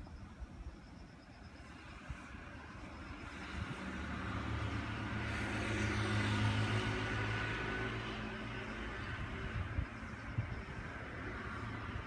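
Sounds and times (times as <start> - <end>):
motor vehicle passing by: 1.7 - 12.0.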